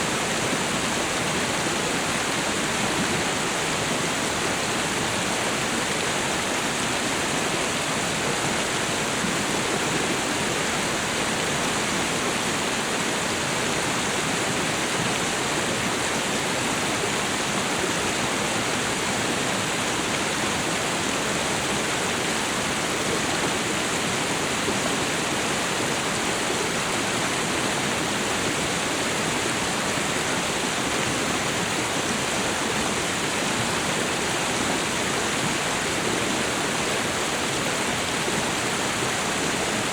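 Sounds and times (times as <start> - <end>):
waterfall and river roaring: 0.0 - 39.9.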